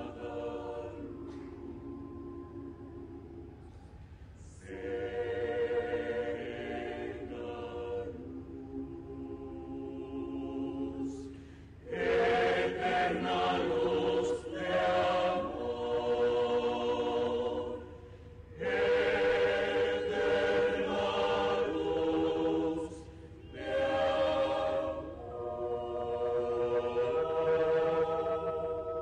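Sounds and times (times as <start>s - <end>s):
mixed choir singing unaccompanied: 0.0s - 3.8s, 4.4s - 29.0s.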